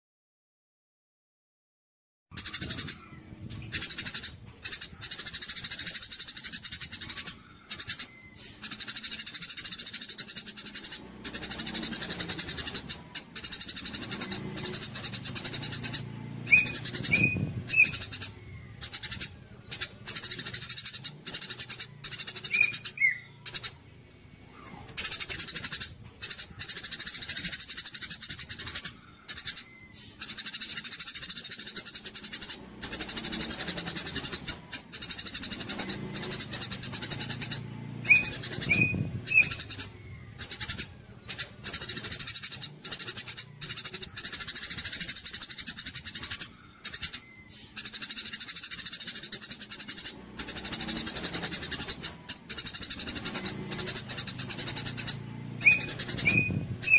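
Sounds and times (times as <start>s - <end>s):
songbird high fast trill: 2.3s - 56.9s.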